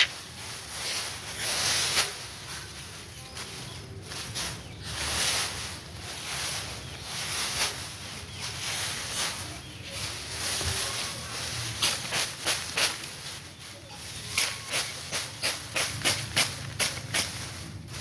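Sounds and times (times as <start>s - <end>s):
dry rice stalks rustling: 0.0s - 18.0s.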